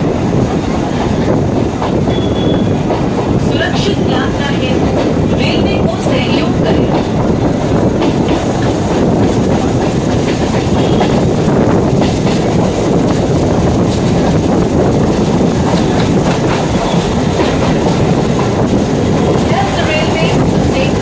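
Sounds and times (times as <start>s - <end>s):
train rumble on board: 0.0s - 21.0s
wheels clicking over rail joints: 0.0s - 21.0s.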